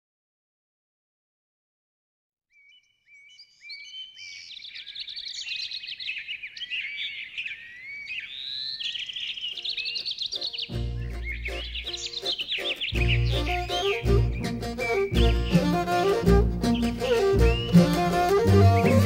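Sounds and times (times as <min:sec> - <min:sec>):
small birds chirping and whistling: 0:02.5 - 0:19.0.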